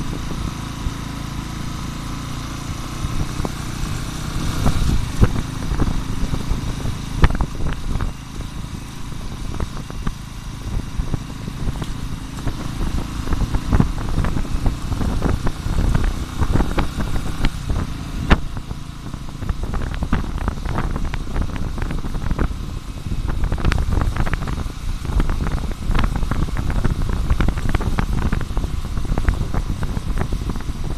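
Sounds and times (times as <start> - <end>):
motorcycle engine rumbling: 0.0 - 30.9.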